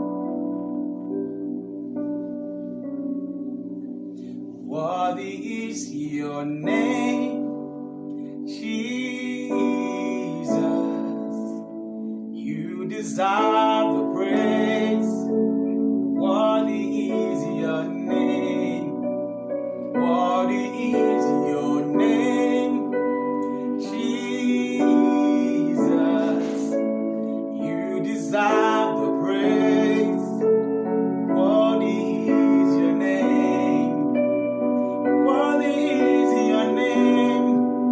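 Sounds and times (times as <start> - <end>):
sustained piano chords: 0.0 - 37.9.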